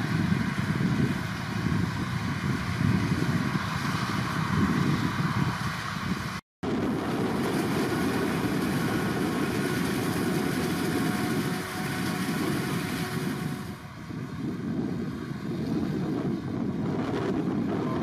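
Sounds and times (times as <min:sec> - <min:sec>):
heavy farm machinery running: 0:00.0 - 0:18.0.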